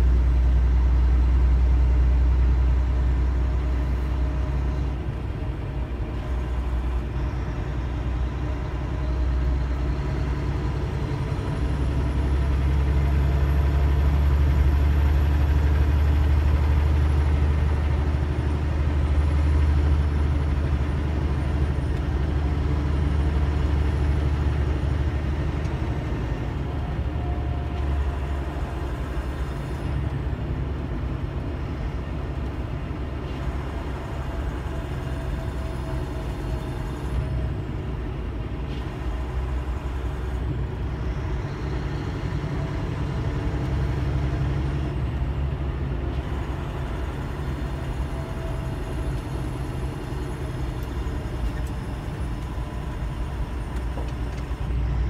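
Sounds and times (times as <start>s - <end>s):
car interior road rumble: 0.0s - 55.0s.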